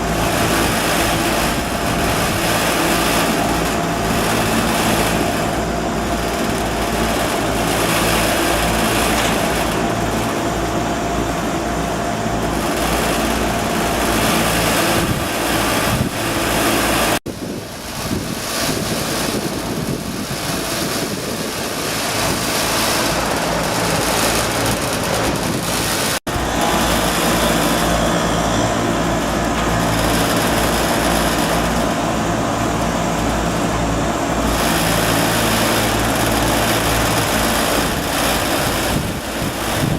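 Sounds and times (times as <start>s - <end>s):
hvac unit humming: 0.0s - 39.9s.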